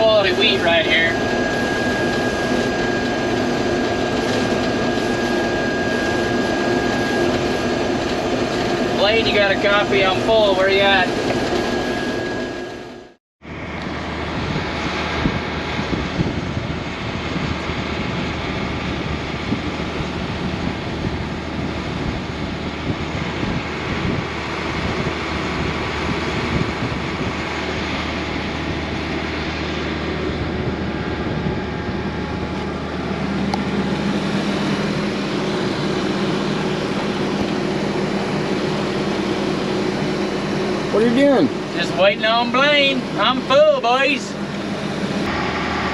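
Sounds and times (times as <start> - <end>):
combine harvester running: 0.0 - 45.9
steady low hum: 0.0 - 45.9.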